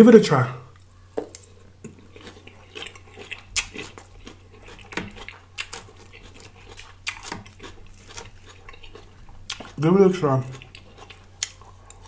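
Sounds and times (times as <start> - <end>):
chewing crisp lettuce: 0.7 - 12.0.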